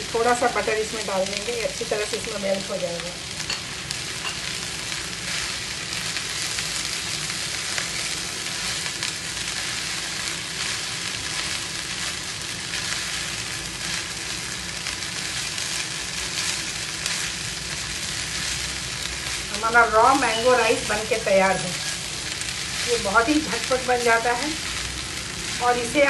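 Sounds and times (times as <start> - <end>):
rice sizzling in a frying pan: 0.0 - 26.0
spatula stirring in a pan: 3.4 - 26.0.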